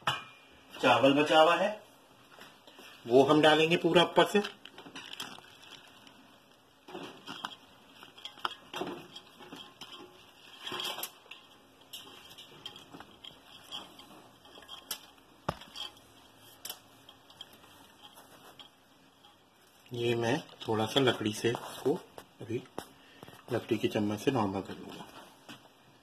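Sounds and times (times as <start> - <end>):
rustling and patting of rice: 2.2 - 25.8.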